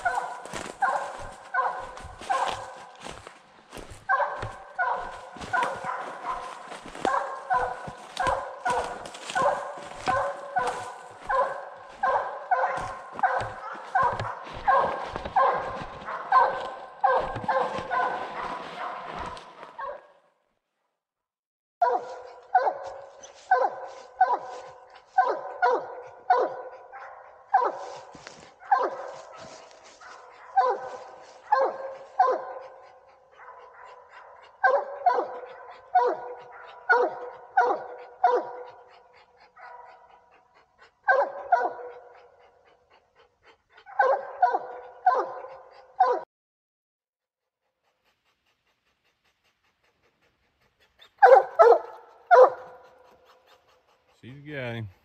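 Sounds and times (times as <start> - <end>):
dog barking: 0.0 - 20.3, 21.8 - 46.3, 50.2 - 55.0.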